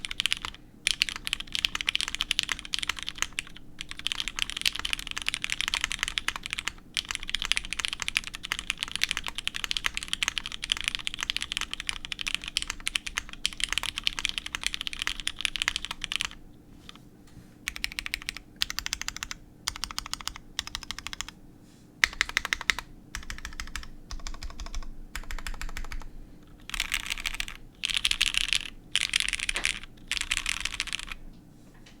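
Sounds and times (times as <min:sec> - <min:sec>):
mechanical keyboard typing: 0:00.0 - 0:16.4, 0:17.7 - 0:21.4, 0:22.0 - 0:31.2.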